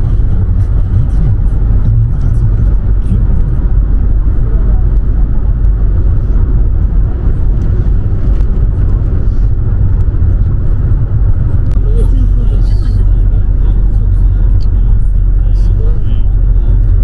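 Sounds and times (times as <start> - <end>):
car interior road and engine rumble: 0.0 - 17.0.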